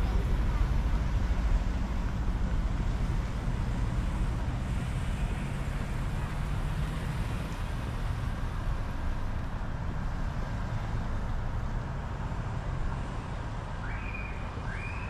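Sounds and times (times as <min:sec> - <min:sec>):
slow street traffic rumble: 0:00.0 - 0:15.0.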